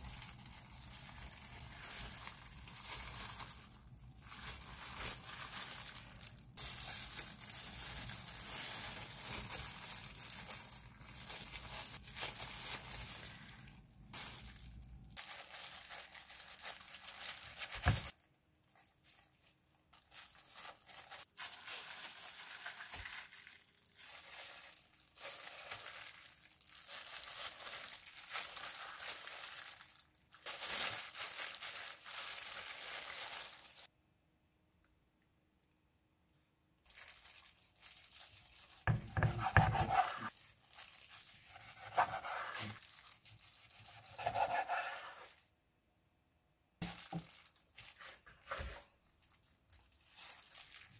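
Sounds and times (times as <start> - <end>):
plastic gloves crinkling: 0.0 - 34.0, 36.8 - 45.6, 46.8 - 50.9.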